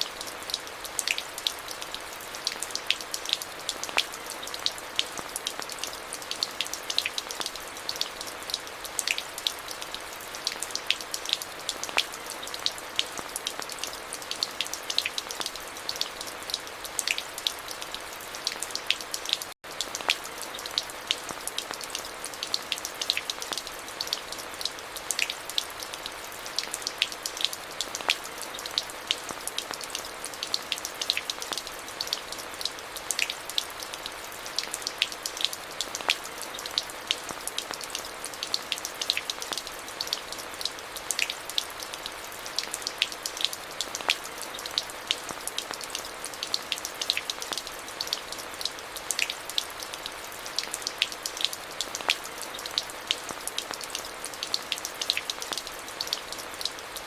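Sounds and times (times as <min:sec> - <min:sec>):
raindrops ticking: 0:00.0 - 0:57.0
steady rain hiss: 0:00.0 - 0:57.0.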